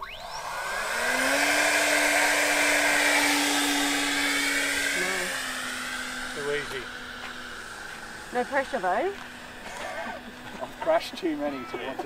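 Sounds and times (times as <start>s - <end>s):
electric ducted fan motors whining: 0.0s - 12.0s.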